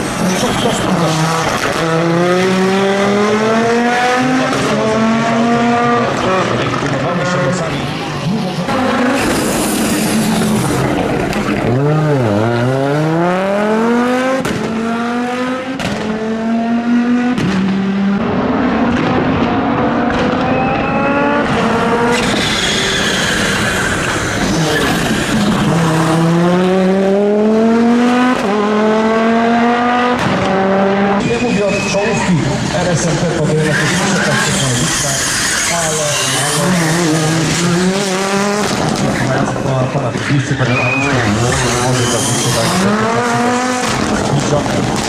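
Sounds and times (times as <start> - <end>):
car engine accelerating hard: 0.0 - 31.2, 32.4 - 40.2, 41.1 - 45.0.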